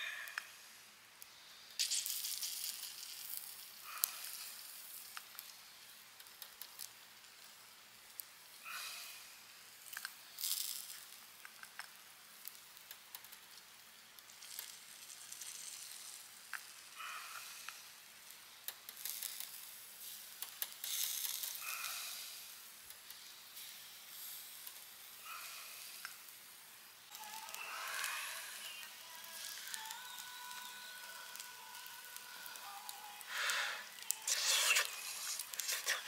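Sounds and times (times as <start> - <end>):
meat sizzling on grill: 0.0 - 36.0
wood fire crackling: 0.0 - 36.0.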